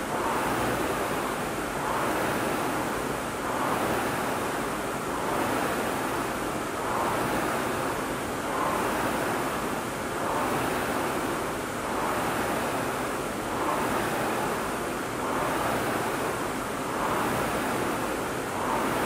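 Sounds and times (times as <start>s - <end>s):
rowing machine flywheel whooshing: 0.0s - 19.0s.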